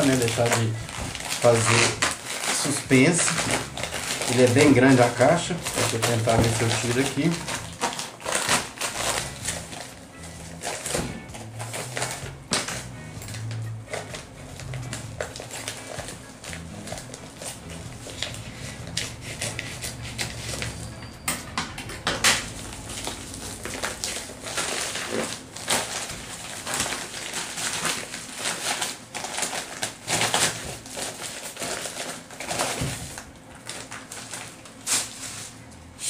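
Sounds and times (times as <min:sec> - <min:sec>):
plastic mailer crinkling: 0:00.0 - 0:21.0, 0:22.2 - 0:35.8.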